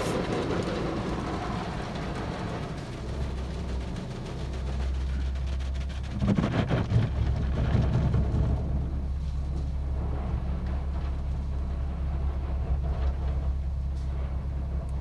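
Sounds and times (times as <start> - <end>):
car wash brushes and water beating: 0.0 - 15.0
low rumble inside car: 0.0 - 15.0.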